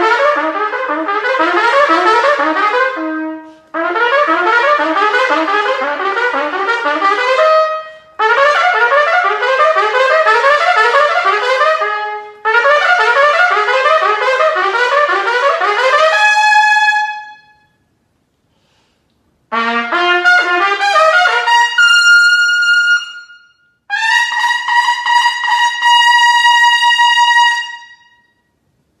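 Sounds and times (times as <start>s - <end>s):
solo trumpet playing: 0.0s - 17.8s, 19.5s - 28.5s.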